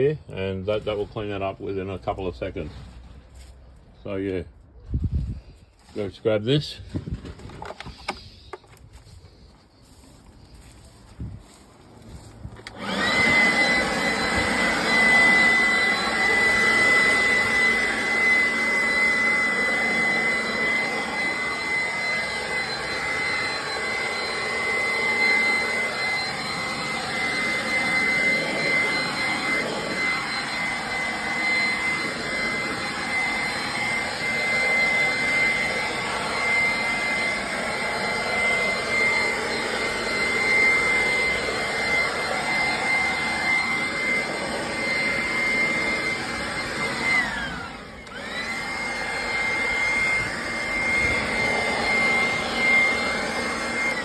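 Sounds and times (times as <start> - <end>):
leaf blower whining: 5.4 - 54.0.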